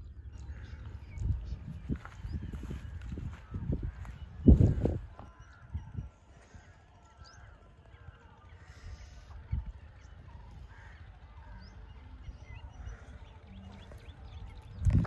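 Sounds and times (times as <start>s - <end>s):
birds chirping and calling: 0.0s - 15.0s
wind rumble on microphone: 0.0s - 15.0s.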